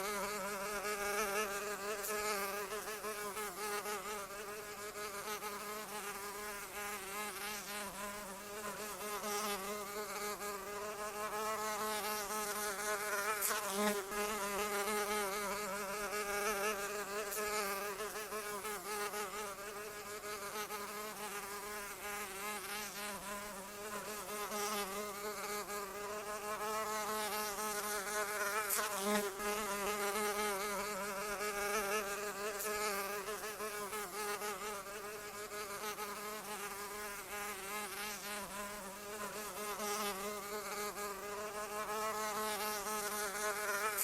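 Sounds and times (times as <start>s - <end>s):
fly buzzing: 0.0s - 44.0s.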